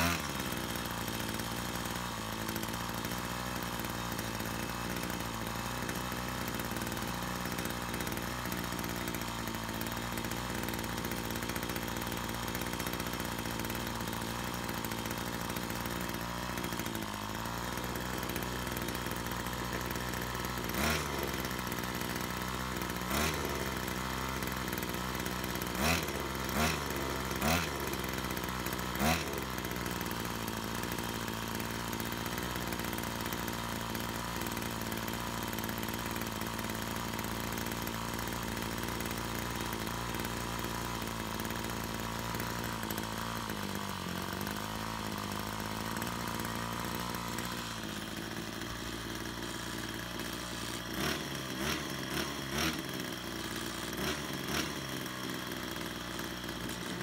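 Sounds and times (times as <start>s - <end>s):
two-stroke engine idling and revving: 0.0s - 57.0s.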